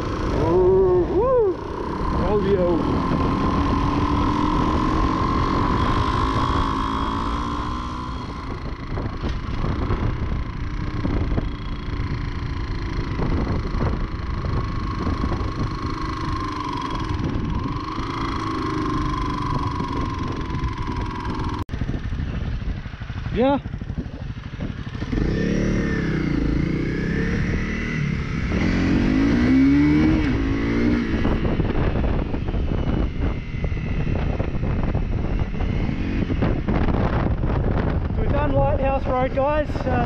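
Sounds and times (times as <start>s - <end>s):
motorcycle engine cruising: 0.0s - 40.0s
wind rumble on microphone: 0.0s - 40.0s.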